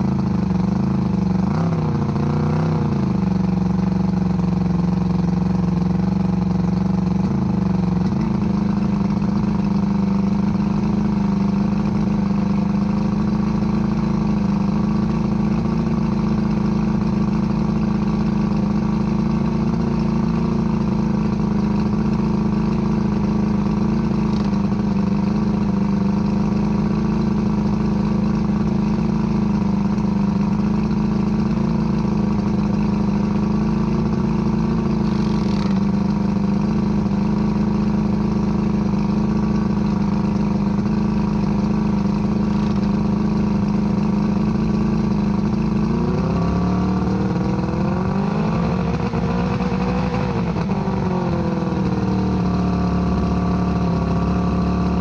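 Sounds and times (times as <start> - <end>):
outboard engine running: 0.0 - 55.0.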